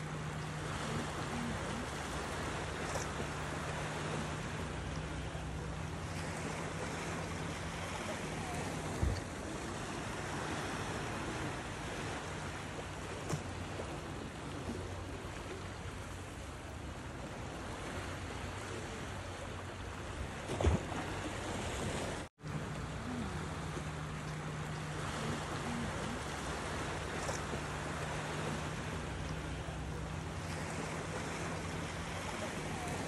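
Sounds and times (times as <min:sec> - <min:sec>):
low steady hum: 0:00.0 - 0:33.0
waves lapping against rocks: 0:00.0 - 0:33.0.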